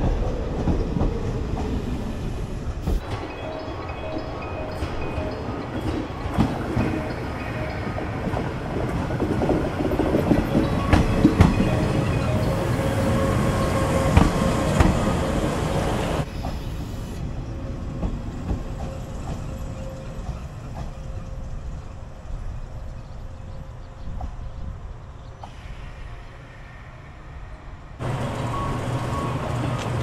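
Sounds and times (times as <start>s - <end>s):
electric train running: 0.0s - 22.5s, 28.0s - 30.0s.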